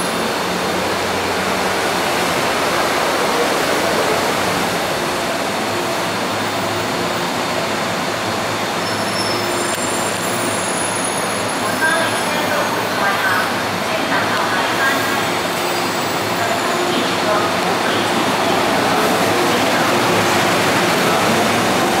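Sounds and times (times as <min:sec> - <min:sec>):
train wheels rushing on rail: 0:00.0 - 0:22.0.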